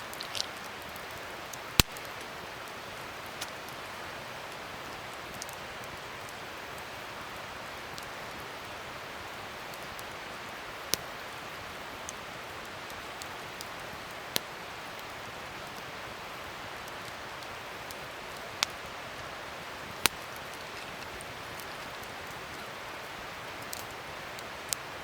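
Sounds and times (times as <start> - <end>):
wood fire burning: 0.0 - 25.0.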